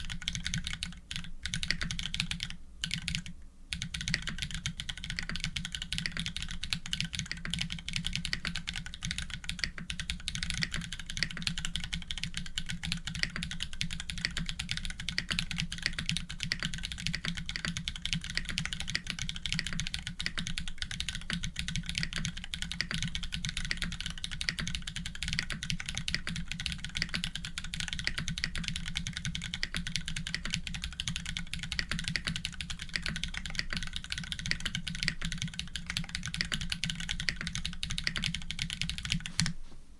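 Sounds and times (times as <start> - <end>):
typing on mechanical keyboard: 0.0 - 39.6.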